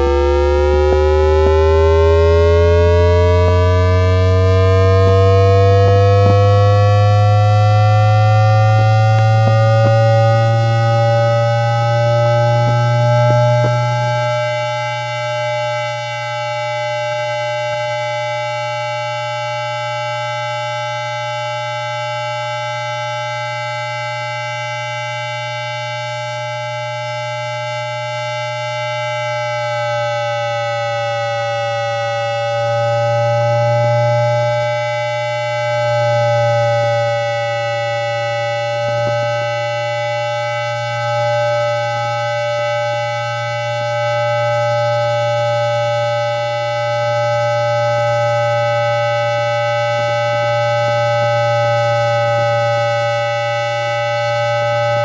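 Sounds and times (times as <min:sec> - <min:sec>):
electronic tones of train motors: 0:00.0 - 0:55.0
low hum: 0:00.0 - 0:55.0.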